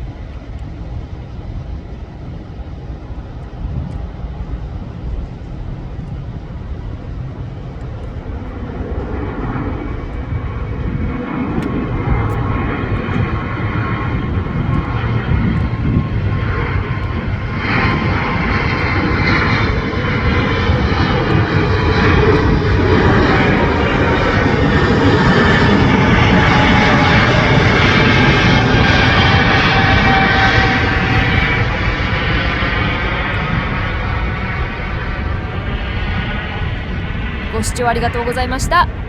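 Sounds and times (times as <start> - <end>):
jet engines at takeoff power: 0.0 - 39.0.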